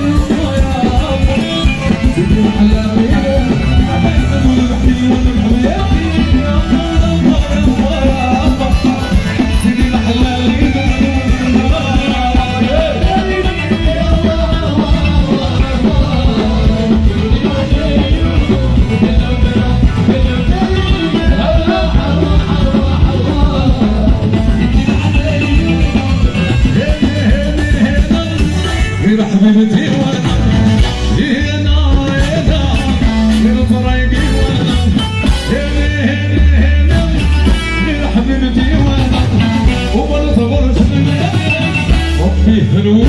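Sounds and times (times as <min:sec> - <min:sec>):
keyboards playing: 0:00.0 - 0:43.0
steady driving beat: 0:00.0 - 0:43.0.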